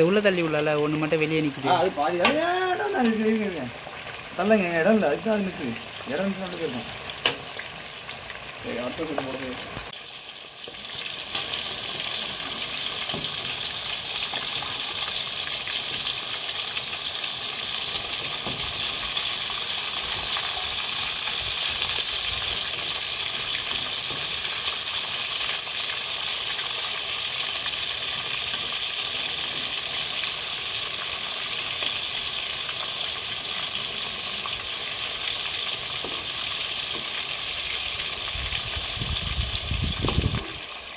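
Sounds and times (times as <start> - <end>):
fish sizzling in hot oil: 0.0 - 40.9.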